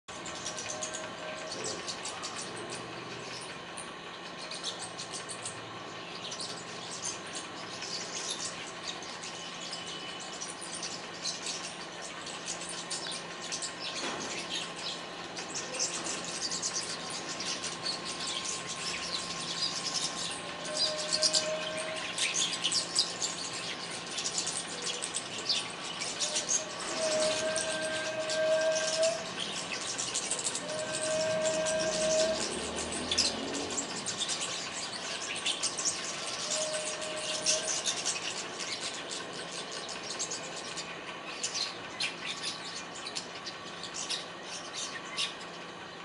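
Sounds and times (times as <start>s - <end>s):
birds chirping: 0.1s - 46.0s.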